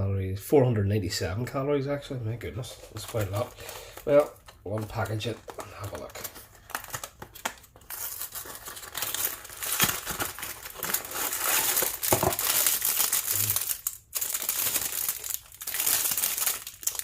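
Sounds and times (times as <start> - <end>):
plastic and card packaging rustling: 2.3 - 17.0.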